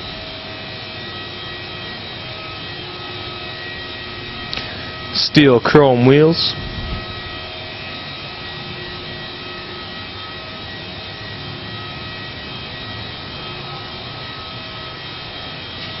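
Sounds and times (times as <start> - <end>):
steady drone with faint tones: 0.0 - 16.0.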